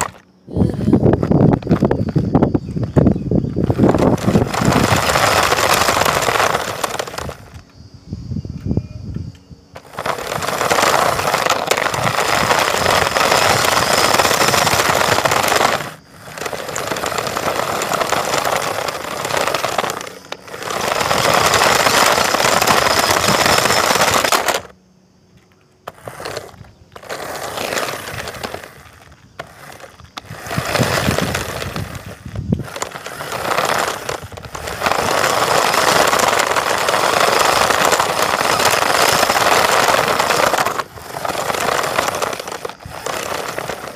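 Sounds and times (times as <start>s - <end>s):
tyres scraping over gritty ground: 0.0s - 7.8s, 9.7s - 24.8s, 25.4s - 43.9s.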